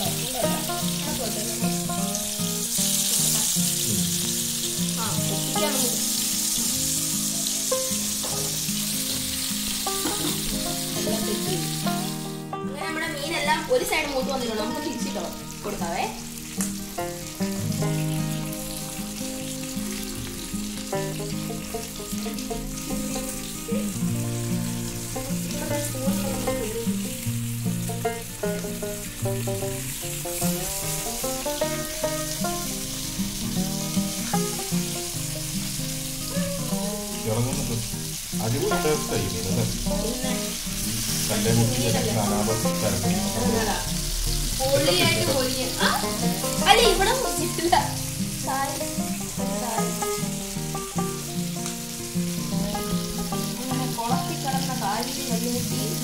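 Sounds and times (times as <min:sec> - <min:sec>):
background music: 0:00.0 - 0:56.0
fish sizzling in a pan: 0:00.0 - 0:56.0.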